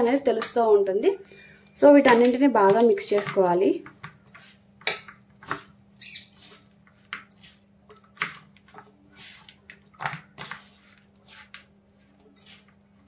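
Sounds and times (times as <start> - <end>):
hands tossing vegetables in bowl: 1.9 - 5.8, 6.4 - 13.0.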